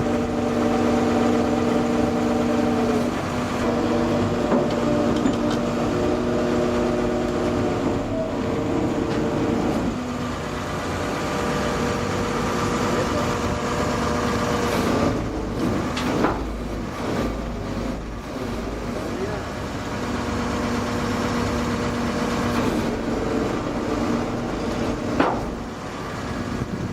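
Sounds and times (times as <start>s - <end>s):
heavy truck engine running: 0.0s - 26.9s.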